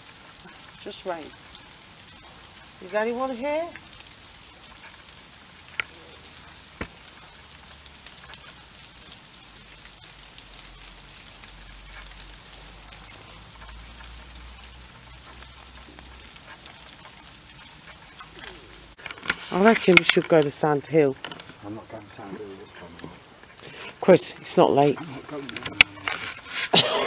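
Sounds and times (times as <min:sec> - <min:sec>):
rain falling on tarmac: 0:00.0 - 0:27.0.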